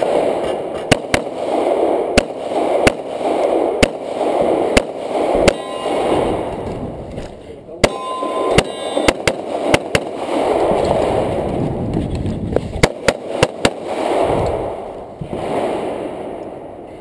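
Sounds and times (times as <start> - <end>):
rapid gunshots: 0.0 - 6.7, 7.8 - 11.5, 12.8 - 16.3.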